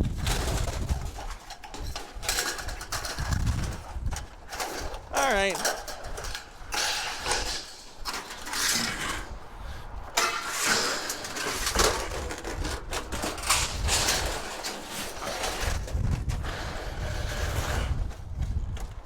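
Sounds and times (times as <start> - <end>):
junk rustling and scraping: 0.0 - 19.0.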